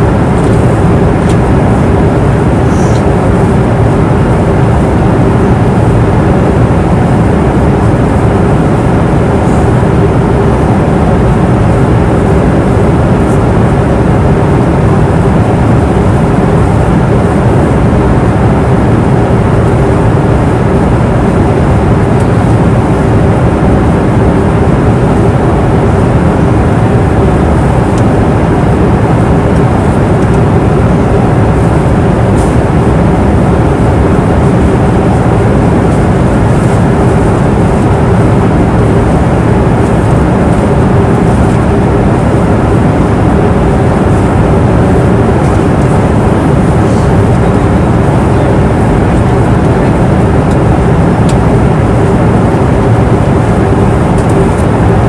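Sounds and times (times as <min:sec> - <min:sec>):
airplane engine and airflow rush: 0:00.0 - 0:55.0
steady hum tone: 0:00.0 - 0:55.0.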